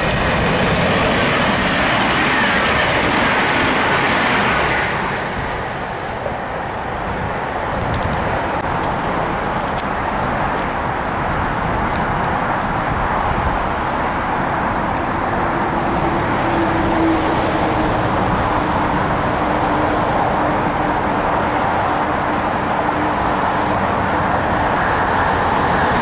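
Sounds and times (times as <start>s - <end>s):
train rushing rumble: 0.0s - 26.0s.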